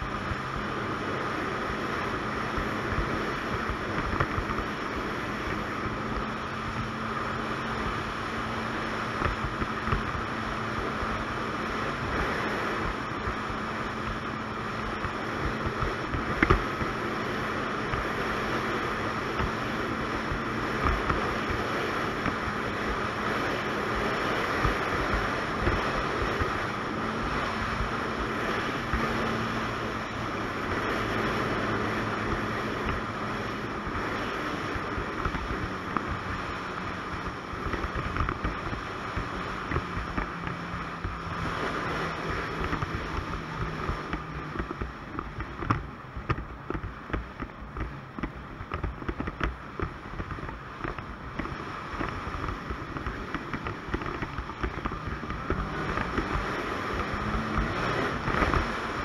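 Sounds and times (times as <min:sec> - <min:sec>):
snowmobile engine drone: 0:00.0 - 0:59.0
wind rush on microphone: 0:00.0 - 0:59.0.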